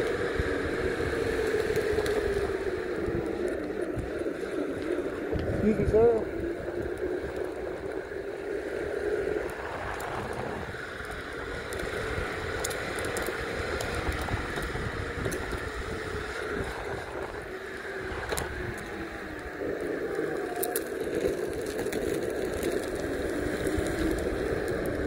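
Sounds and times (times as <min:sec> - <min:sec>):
grit ticks under wheels: 0:00.0 - 0:25.0
skateboard wheels rumbling on asphalt: 0:00.0 - 0:25.0
wind on microphone: 0:00.0 - 0:25.0.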